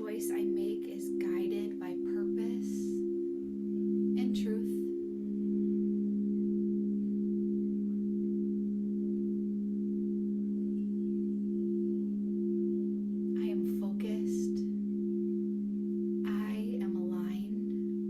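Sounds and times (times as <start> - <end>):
singing bowls drone: 0.0 - 18.0.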